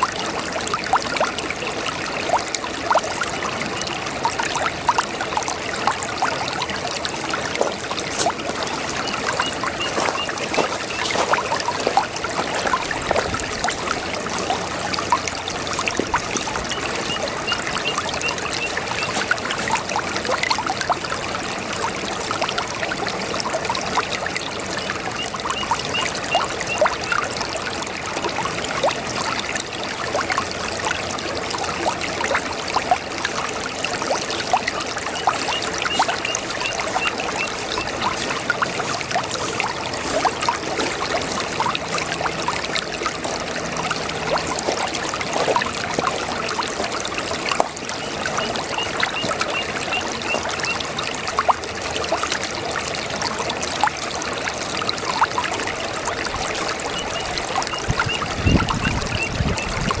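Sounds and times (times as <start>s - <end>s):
brook babbling over stones: 0.0s - 60.0s.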